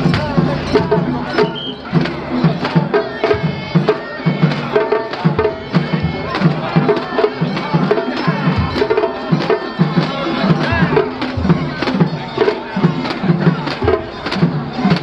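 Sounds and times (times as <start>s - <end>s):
taiko drumbeat: 0.0s - 15.0s.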